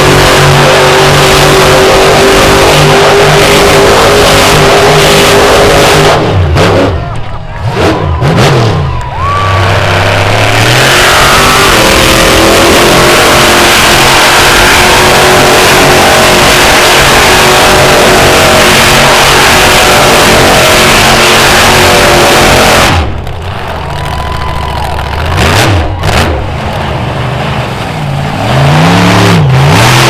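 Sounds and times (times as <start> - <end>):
monster truck engine at high revs: 0.0 - 30.0.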